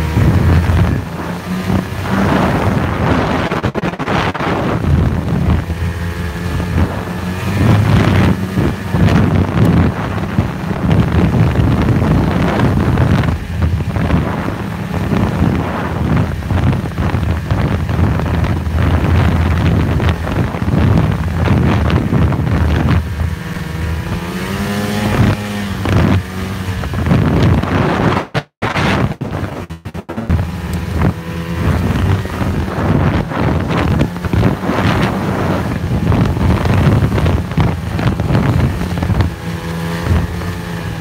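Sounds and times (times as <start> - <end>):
snowmobile engine running: 0.0 - 41.0
wind buffeting microphone: 0.0 - 41.0.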